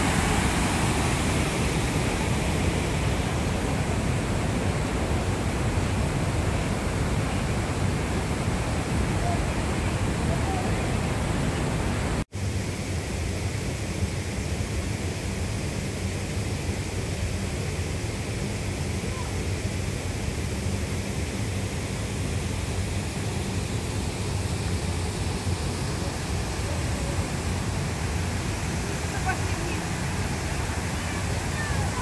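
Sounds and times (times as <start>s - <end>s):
waterfall rushing over weir: 0.0s - 32.0s.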